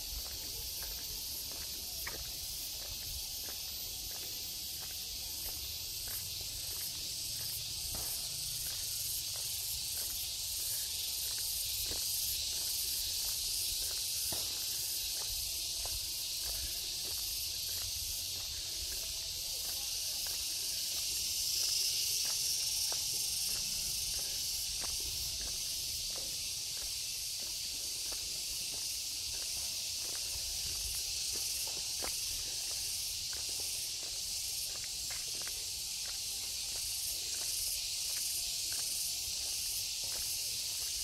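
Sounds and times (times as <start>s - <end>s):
faint footsteps on a path: 0.0s - 41.0s
high-pitched insect chorus: 0.0s - 41.0s.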